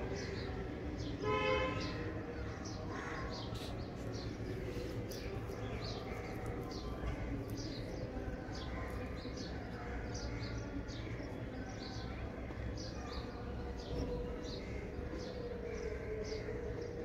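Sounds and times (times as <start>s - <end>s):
small birds chirping: 0.0s - 1.2s, 1.8s - 17.0s.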